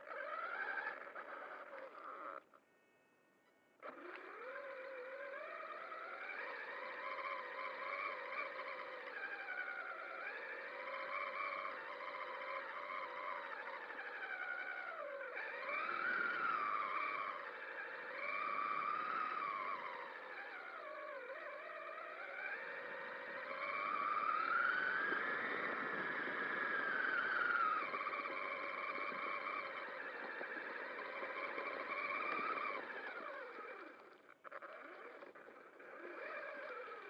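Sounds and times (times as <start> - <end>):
electric motor whine of rc truck: 0.0 - 37.0.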